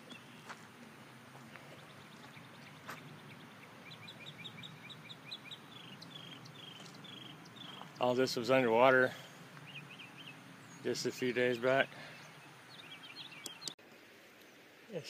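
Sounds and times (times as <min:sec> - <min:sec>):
bird chirping: 0:00.0 - 0:00.6, 0:01.6 - 0:13.8.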